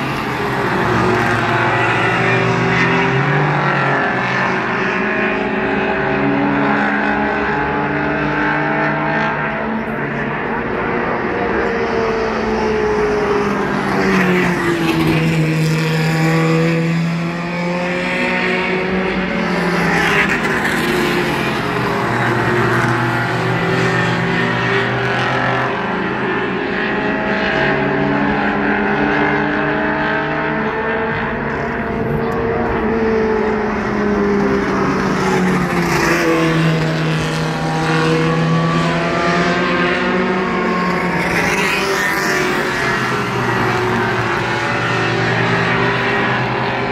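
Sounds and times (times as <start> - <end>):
race car engines: 0.0 - 46.9.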